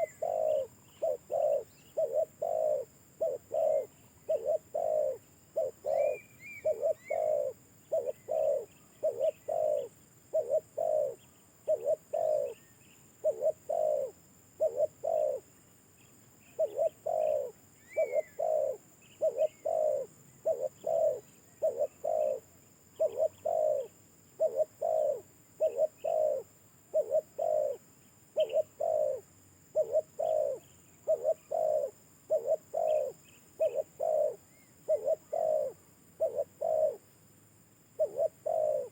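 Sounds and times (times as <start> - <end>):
dove cooing: 0.0 - 15.5, 16.5 - 37.1, 38.0 - 38.9
small birds chirping: 0.0 - 37.2, 37.9 - 38.9.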